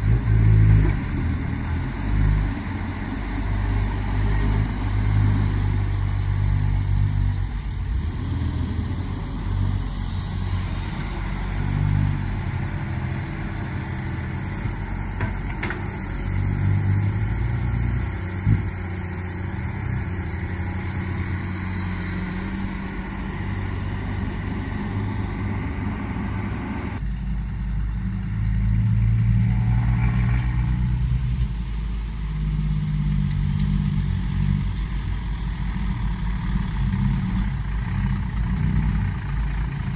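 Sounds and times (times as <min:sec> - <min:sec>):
excavator diesel engine revving: 0:00.0 - 0:39.9.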